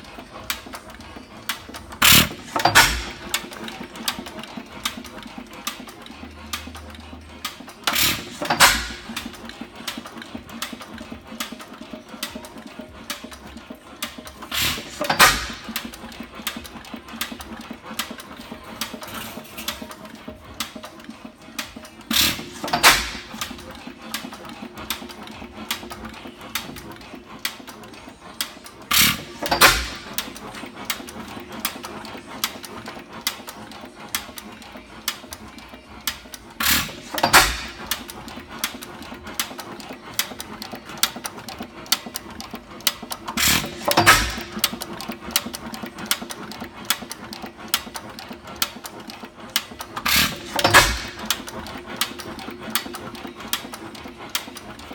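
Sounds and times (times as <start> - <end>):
mechanical clatter: 0.0 - 54.9.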